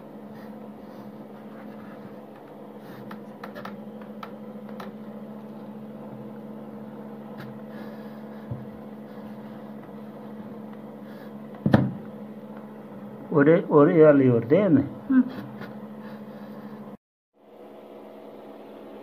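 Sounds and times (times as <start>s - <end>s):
fan motor humming: 0.0s - 19.0s.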